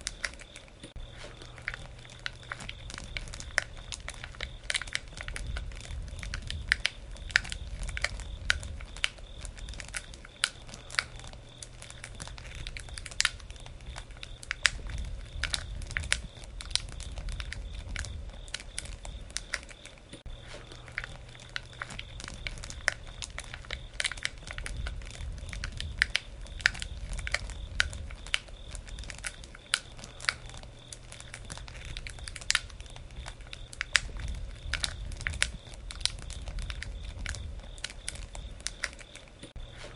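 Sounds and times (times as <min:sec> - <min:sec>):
burning wood crackling: 0:00.0 - 0:39.9
low rumble of flames: 0:00.0 - 0:39.9.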